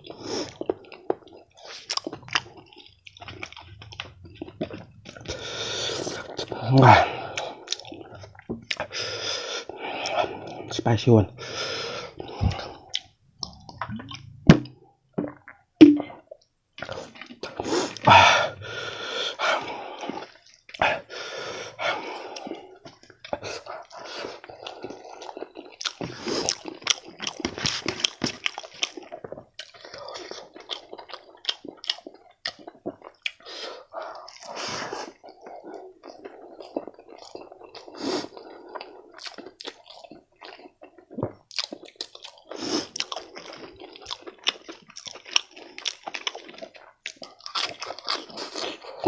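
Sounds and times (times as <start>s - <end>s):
person chewing and lip-smacking: 0.0s - 18.7s, 19.3s - 49.0s.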